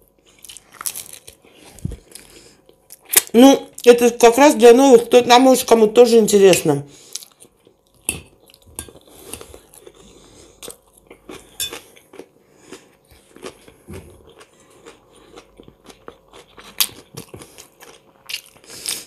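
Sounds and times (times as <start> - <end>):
chewing and crunching salad: 0.0 - 4.0, 6.5 - 19.0.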